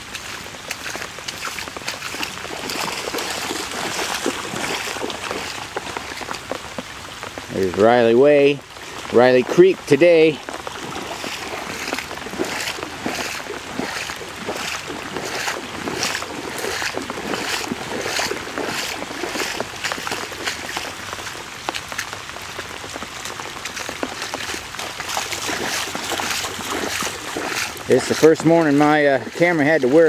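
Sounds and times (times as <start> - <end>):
footsteps on muddy trail: 0.0 - 30.0.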